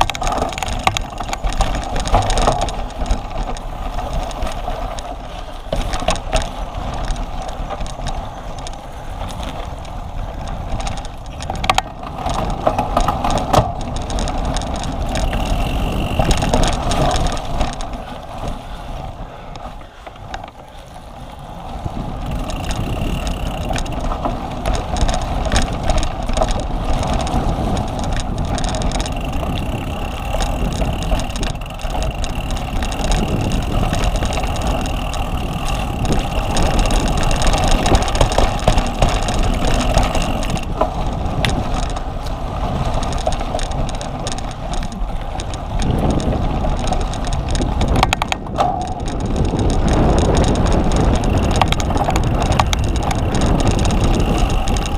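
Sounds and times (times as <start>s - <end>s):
bike tyres and drivetrain rushing: 0.0s - 54.9s.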